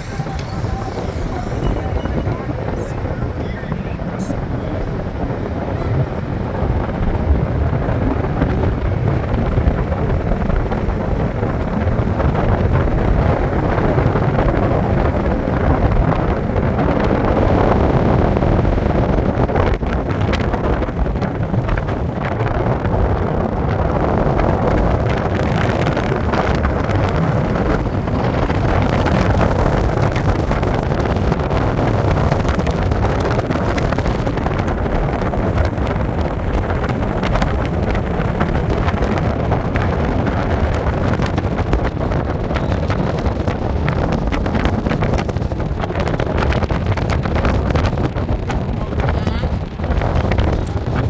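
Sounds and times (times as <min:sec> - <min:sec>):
car engine and road noise: 0:00.0 - 0:51.0
wind buffeting microphone: 0:00.0 - 0:51.0.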